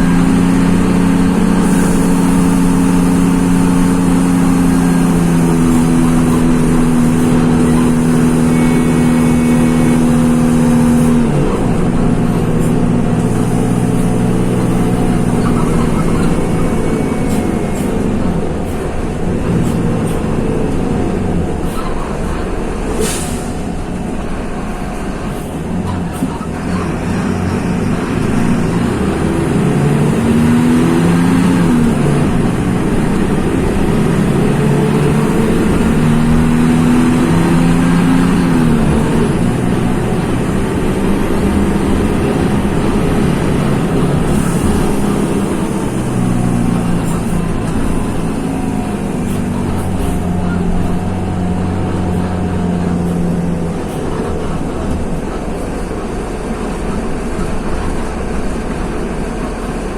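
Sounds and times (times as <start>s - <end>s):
bus diesel engine under load: 0.0s - 59.9s.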